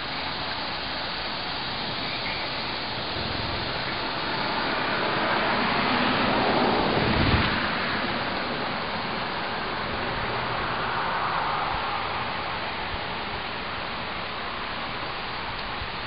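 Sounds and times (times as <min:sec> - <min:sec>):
car passing by: 0:01.3 - 0:15.0.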